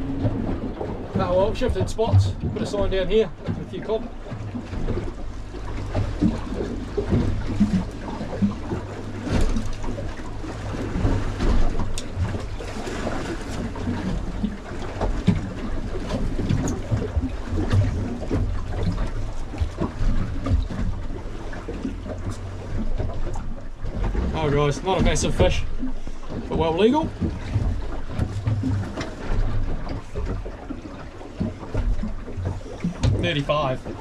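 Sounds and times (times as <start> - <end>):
boat knocking: 0.0 - 34.0
water slapping boat hull: 0.0 - 34.0.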